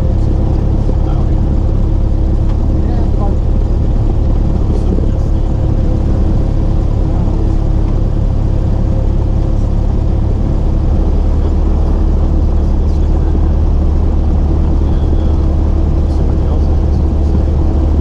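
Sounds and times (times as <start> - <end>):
aircraft engine droning: 0.0 - 18.0.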